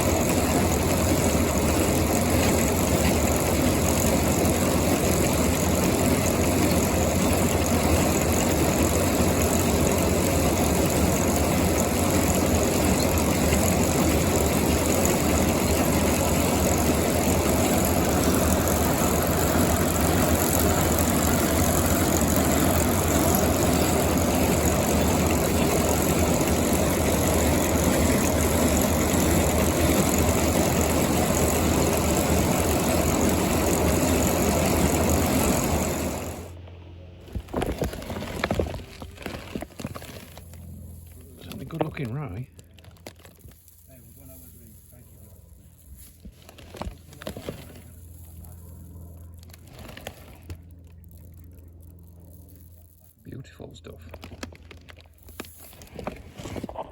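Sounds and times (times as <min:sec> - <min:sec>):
farm machinery engine droning: 0:00.0 - 0:56.9.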